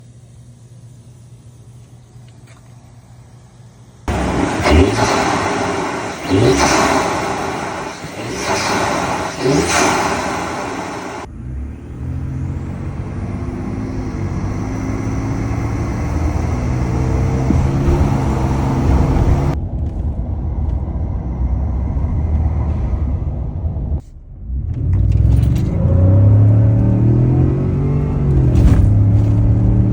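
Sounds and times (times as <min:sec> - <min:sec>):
truck engine low rumble: 0:00.0 - 0:29.9.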